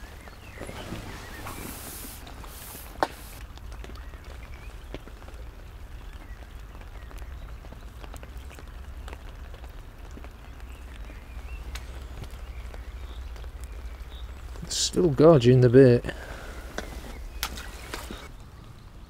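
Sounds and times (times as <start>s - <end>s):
rain on umbrella and water: 0.0s - 19.0s.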